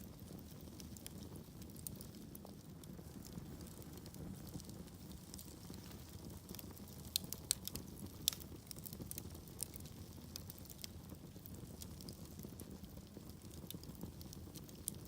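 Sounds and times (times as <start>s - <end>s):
fire crackling and popping: 0.0s - 15.0s
log fire rumbling: 0.0s - 15.0s.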